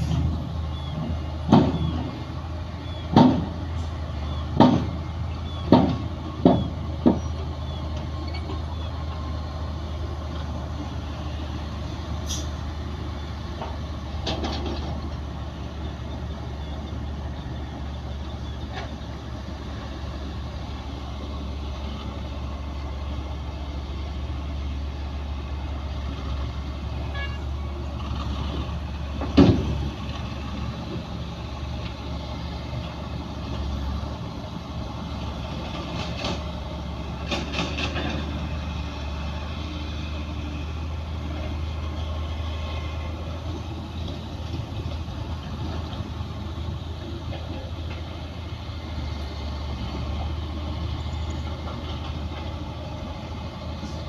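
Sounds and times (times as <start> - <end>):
heavy diesel machinery droning: 0.0 - 54.0.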